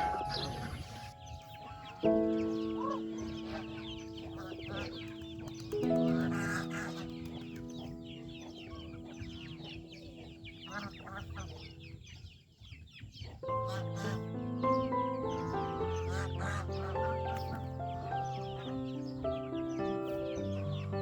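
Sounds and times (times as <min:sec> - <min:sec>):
soft background music: 0:00.0 - 0:12.3, 0:13.4 - 0:21.0
chickens clucking: 0:00.0 - 0:21.0.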